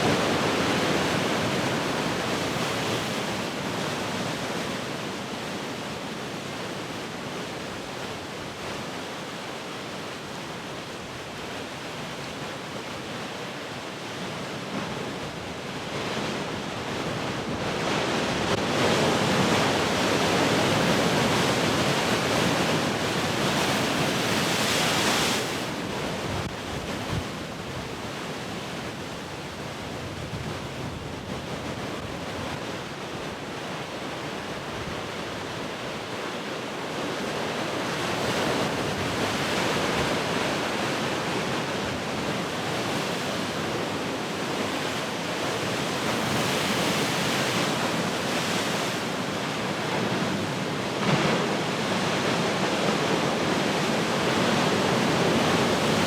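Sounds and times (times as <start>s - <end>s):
wind: 0.0s - 56.0s.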